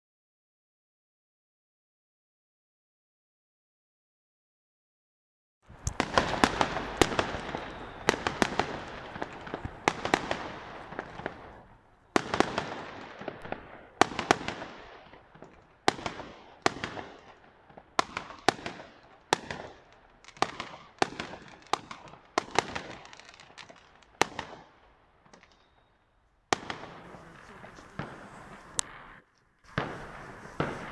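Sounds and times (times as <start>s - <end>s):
fireworks crackling: 5.6s - 30.9s
fireworks exploding: 5.7s - 30.9s.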